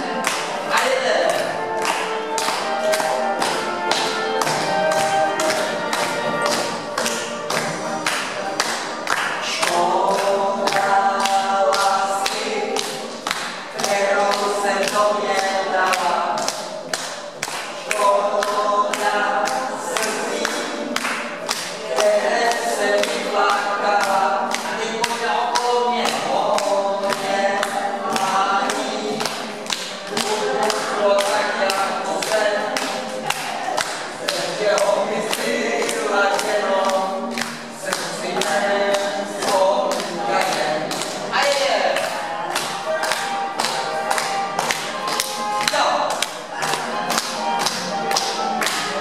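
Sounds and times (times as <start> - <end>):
dance song over loudspeaker: 0.0 - 49.0
people clapping along: 0.0 - 49.0.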